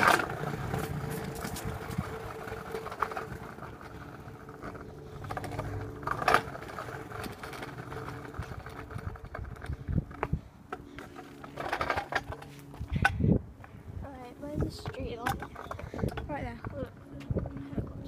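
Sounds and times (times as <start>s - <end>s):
kick scooter rolling over pavement: 0.0s - 18.0s.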